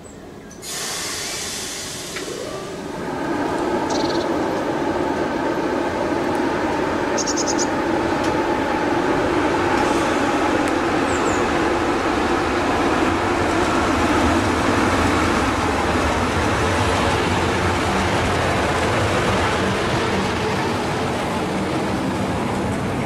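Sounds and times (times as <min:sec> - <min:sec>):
train wheels rushing on rail: 0:00.6 - 0:23.0.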